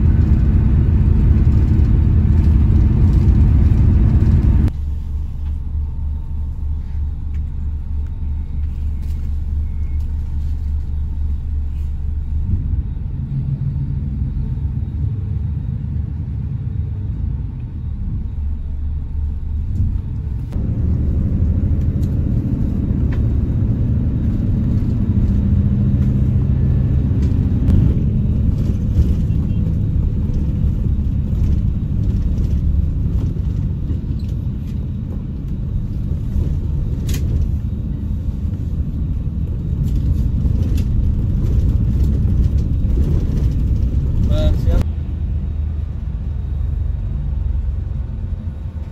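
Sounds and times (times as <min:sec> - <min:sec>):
bus engine and road rumble: 0:00.0 - 0:48.9.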